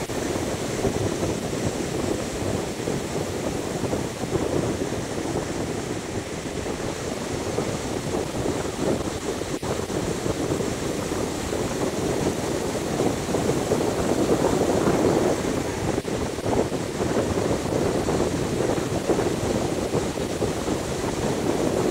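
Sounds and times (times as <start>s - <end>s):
surf breaking on beach: 0.0s - 21.9s
wind buffeting microphone: 0.0s - 21.9s.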